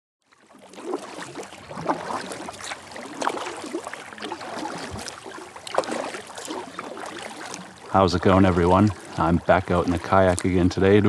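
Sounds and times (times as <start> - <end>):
water slapping kayak hull: 0.2 - 11.0.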